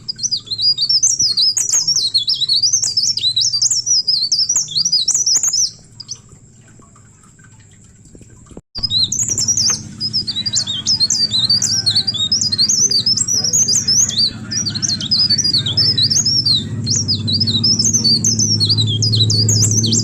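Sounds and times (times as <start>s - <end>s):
warbler singing high chirps: 0.0s - 6.3s, 8.8s - 20.0s
steady low hum: 0.0s - 20.0s.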